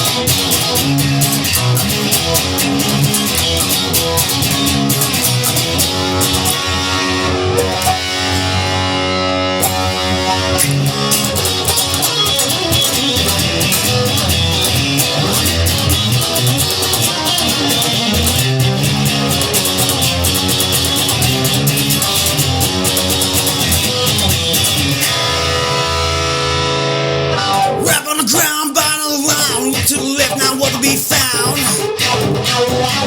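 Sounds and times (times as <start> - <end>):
bass guitar: 0.0 - 33.0
electric guitar: 0.0 - 33.0.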